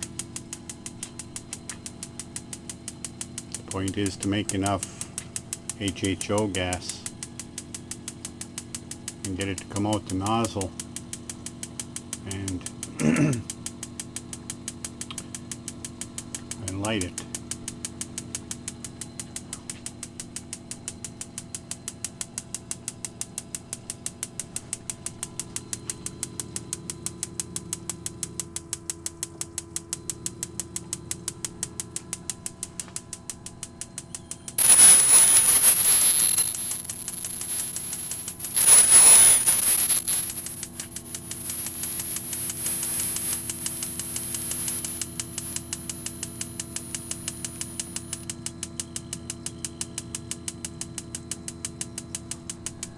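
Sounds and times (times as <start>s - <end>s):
spark igniter ticking rapidly: 0.0s - 12.9s, 17.3s - 48.4s
low hum of heater: 0.0s - 52.9s.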